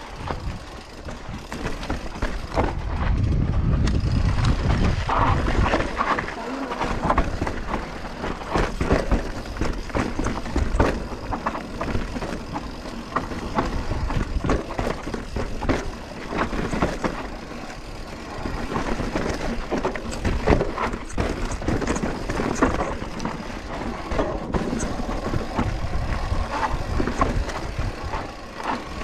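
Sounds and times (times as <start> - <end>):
wind rumble on microphone: 0.0 - 12.6, 18.3 - 29.0
bike rattling and clacking: 0.0 - 29.0.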